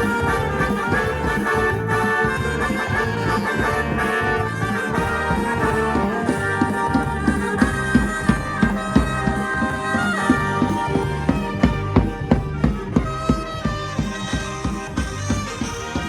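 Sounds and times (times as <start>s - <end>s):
melody instruments holding notes: 0.0s - 16.0s
steady drum beat: 0.0s - 16.0s.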